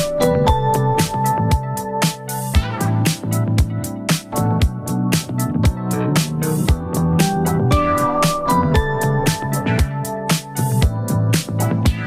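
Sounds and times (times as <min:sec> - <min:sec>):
background music with drums: 0:00.0 - 0:12.0.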